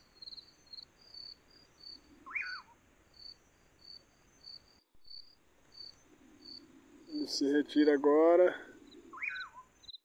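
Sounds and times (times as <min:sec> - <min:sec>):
insect chirping: 0:00.0 - 0:10.0
sweeping insect call: 0:00.0 - 0:10.0.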